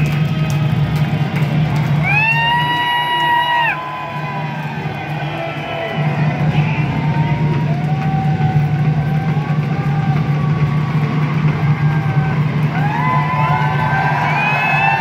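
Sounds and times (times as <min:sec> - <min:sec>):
crowd din of voices: 0:00.0 - 0:15.0
shouts and whoops: 0:02.0 - 0:15.0.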